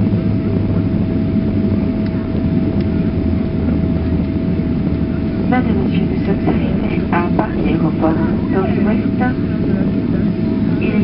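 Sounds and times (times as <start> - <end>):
jet engines rumbling: 0.0 - 11.0
thin steady hum: 0.0 - 11.0.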